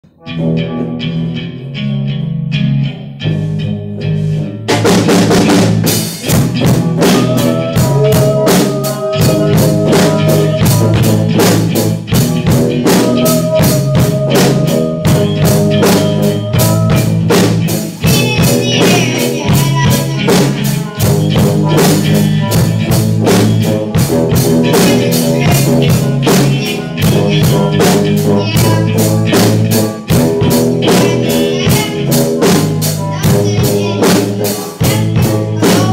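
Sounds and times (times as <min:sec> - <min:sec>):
bass guitar: 0:00.0 - 0:35.9
electric guitar: 0:00.0 - 0:35.9
drum kit beat: 0:03.2 - 0:35.9.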